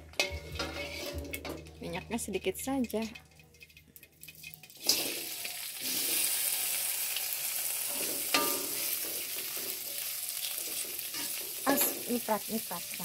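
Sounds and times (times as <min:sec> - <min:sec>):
food sizzling in wok: 0:00.0 - 0:13.0
oil frying and spattering: 0:00.0 - 0:13.0.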